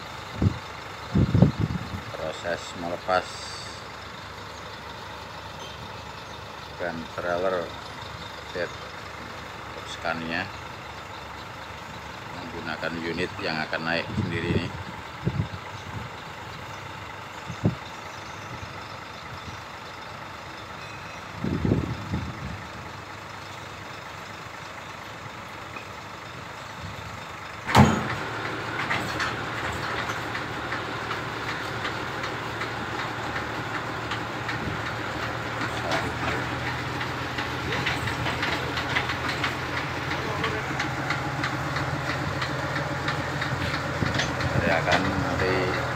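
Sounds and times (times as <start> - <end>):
heavy engine idling: 0.0 - 45.9.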